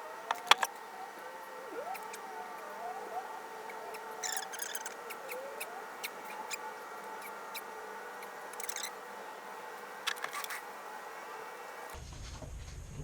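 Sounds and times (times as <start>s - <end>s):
rubber sleeve squeaking and clicking: 0.0s - 12.0s.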